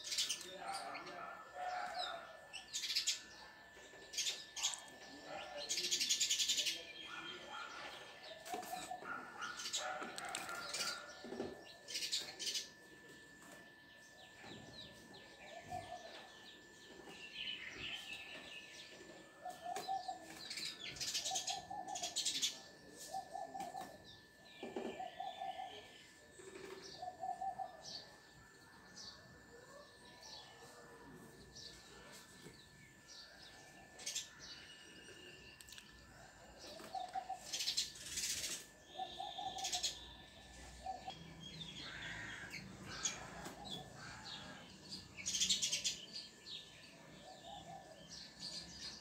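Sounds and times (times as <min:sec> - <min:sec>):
sparrows chirping: 0:00.0 - 0:49.0.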